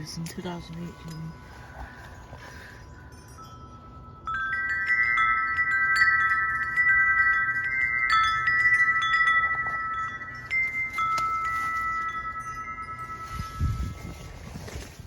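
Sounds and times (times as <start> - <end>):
wind chime ringing: 0.0 - 14.5.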